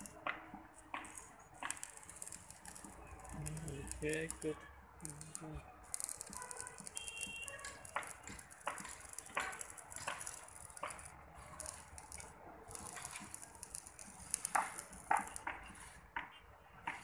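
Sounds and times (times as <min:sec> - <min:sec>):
welding arc crackling: 0:00.0 - 0:15.8.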